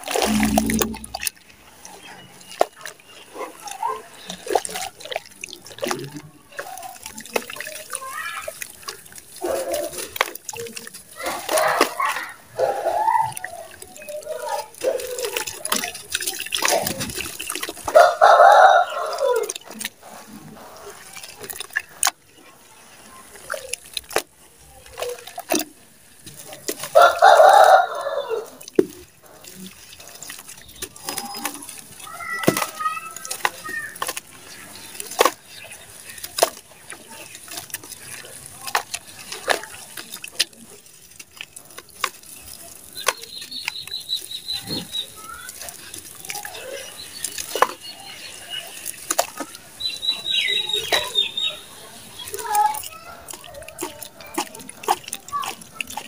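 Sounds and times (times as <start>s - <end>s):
hands splashing in muddy water: 0.0s - 1.4s, 2.0s - 56.0s
water dripping: 0.0s - 56.0s.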